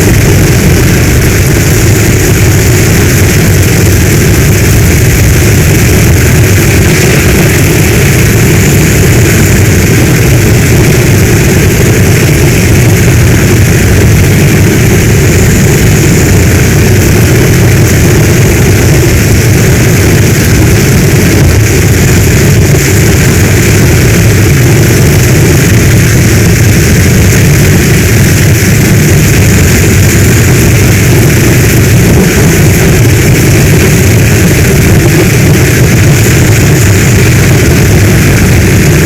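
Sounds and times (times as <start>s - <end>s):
deep rumble: 0.0s - 39.0s
heavy rain: 0.0s - 39.0s.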